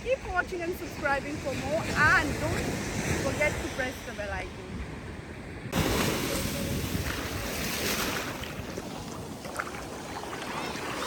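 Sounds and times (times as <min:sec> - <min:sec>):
wind buffeting microphone: 0:00.0 - 0:11.0
sea surf washing on beach: 0:00.1 - 0:04.8, 0:05.7 - 0:11.0.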